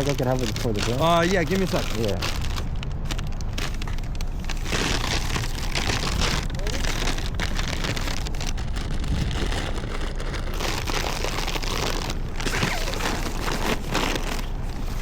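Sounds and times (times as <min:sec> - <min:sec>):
bag crinkling and rustling: 0:00.0 - 0:15.0
steady low rumble: 0:00.0 - 0:15.0.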